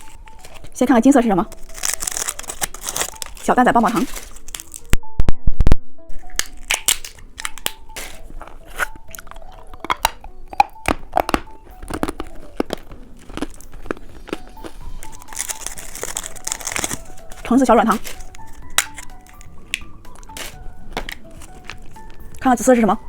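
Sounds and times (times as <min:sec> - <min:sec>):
chewing crunches: 0:00.0 - 0:00.8, 0:01.4 - 0:04.9, 0:06.2 - 0:22.4
hard candy cracking: 0:00.0 - 0:05.0, 0:06.1 - 0:23.0.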